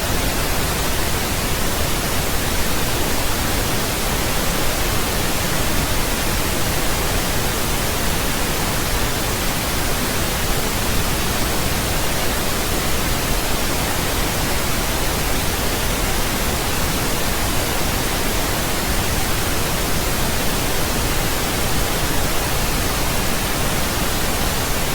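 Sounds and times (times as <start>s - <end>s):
pink noise hiss: 0.0s - 24.9s.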